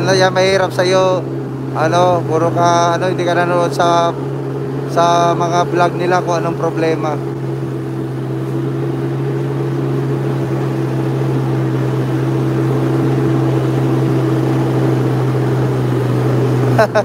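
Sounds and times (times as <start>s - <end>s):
jet ski engine drone: 0.0s - 17.0s.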